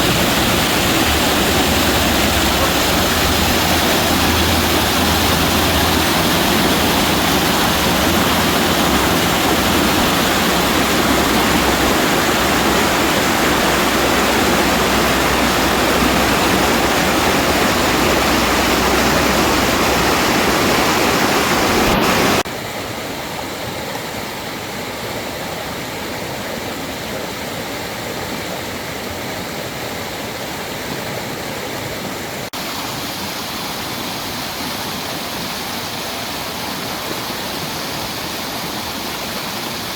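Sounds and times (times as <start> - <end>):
fast-flowing creek rushing: 0.0 - 39.9.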